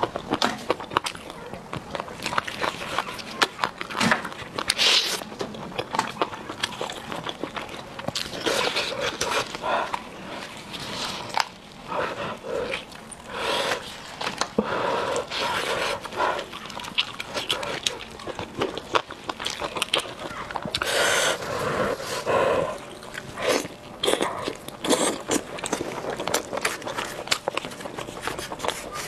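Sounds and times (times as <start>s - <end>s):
wet chewing and mouth smacking: 0.0s - 29.0s.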